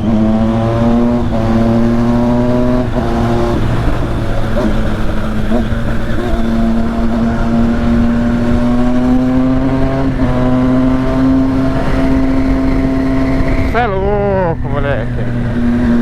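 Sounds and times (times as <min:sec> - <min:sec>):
motorcycle engine at high revs: 0:00.0 - 0:16.0
wind rush: 0:00.0 - 0:16.0.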